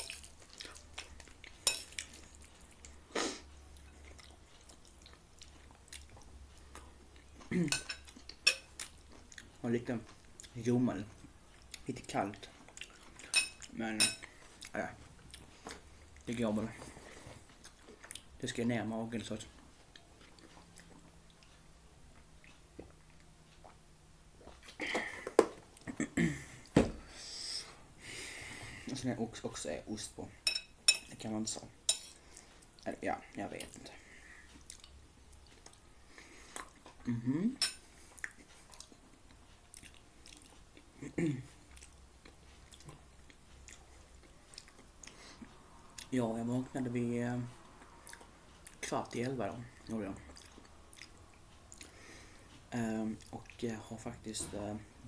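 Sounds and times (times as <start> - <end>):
soft chewing: 0.0 - 26.0, 31.0 - 54.8.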